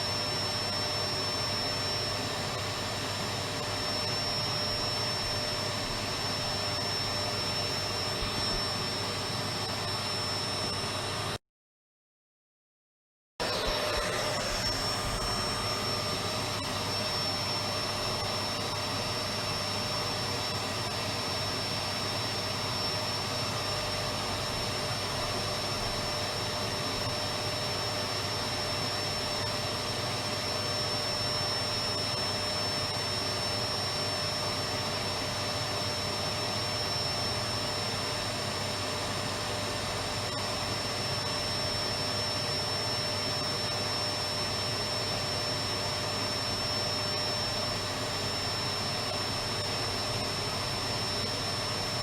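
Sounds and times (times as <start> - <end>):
vacuum cleaner running: 0.0 - 11.4, 13.4 - 52.0.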